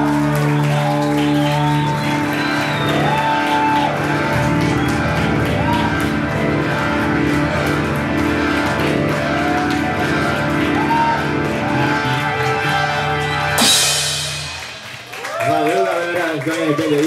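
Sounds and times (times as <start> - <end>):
bass guitar: 0.0 - 15.5.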